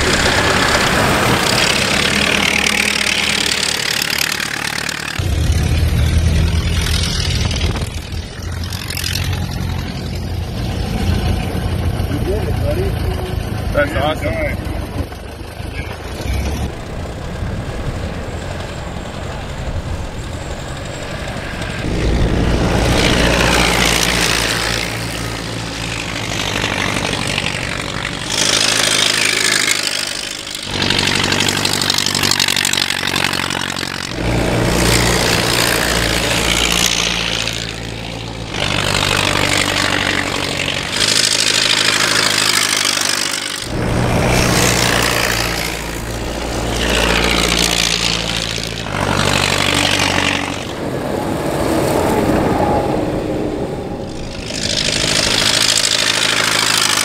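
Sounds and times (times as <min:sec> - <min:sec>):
race car engines passing by: 0:00.0 - 0:57.0.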